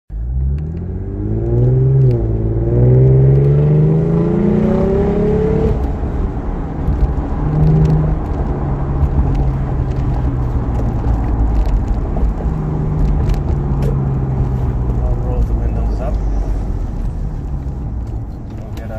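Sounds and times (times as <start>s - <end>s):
car engine accelerating: 0.1s - 18.9s
road noise: 0.1s - 18.9s.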